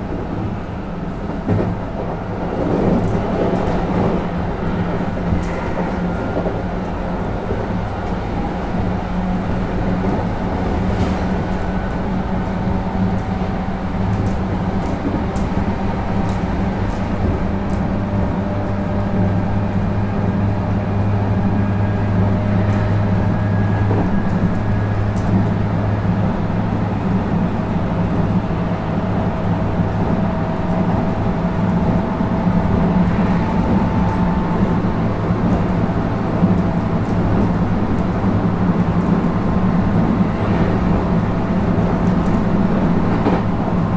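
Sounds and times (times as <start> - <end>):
train interior rumble and hum: 0.0 - 43.9.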